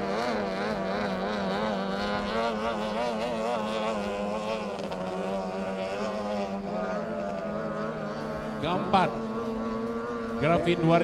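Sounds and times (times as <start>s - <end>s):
outboard motors running flat out: 0.0s - 11.0s.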